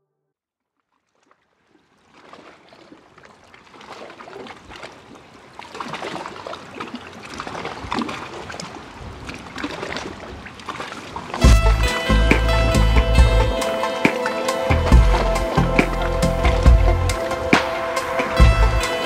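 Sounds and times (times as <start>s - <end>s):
waves breaking on a beach: 1.2s - 12.6s, 13.5s - 19.0s.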